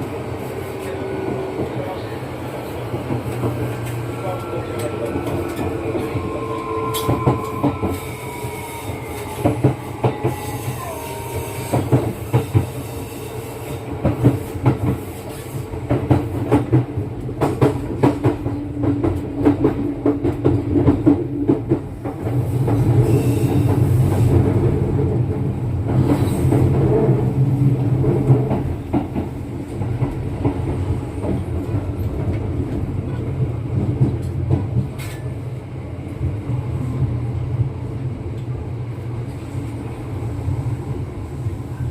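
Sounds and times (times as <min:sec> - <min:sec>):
train rumble from inside: 0:00.0 - 0:41.9.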